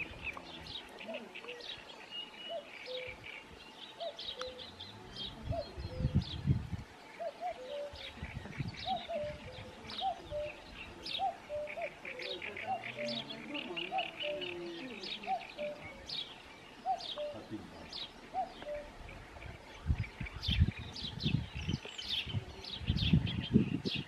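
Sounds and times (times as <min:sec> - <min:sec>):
small birds chirping and trilling: 0:00.0 - 0:24.0.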